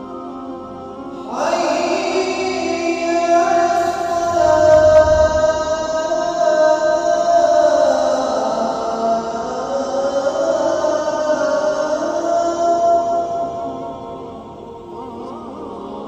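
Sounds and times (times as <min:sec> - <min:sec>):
man chanting call to prayer: 0:01.2 - 0:14.2.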